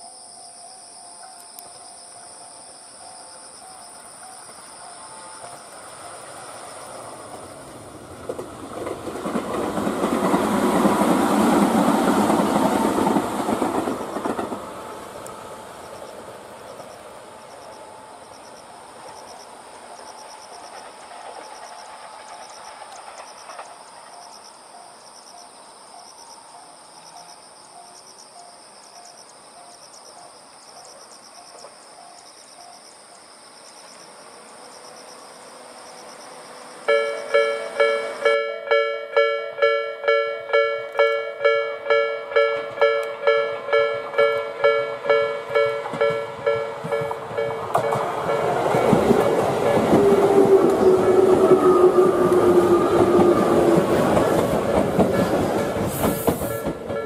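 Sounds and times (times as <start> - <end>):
crickets chirping: 0.0 - 57.0
train passing: 0.0 - 57.0.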